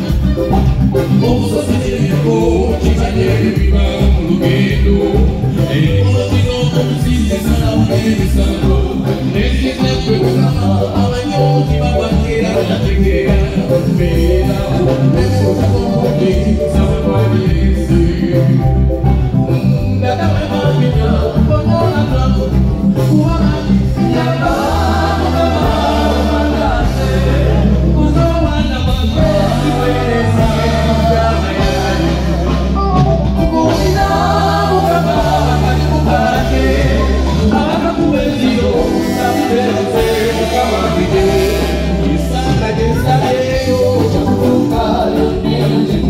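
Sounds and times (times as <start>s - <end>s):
live band music through pa: 0.0s - 46.0s
person singing: 0.0s - 46.0s
strong bass line: 0.0s - 46.0s.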